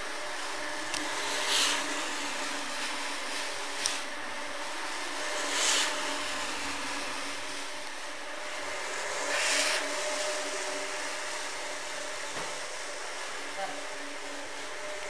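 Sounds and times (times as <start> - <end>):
hissing swishes of brush: 0.0 - 13.5
floor scrubber motor hum: 0.0 - 15.0.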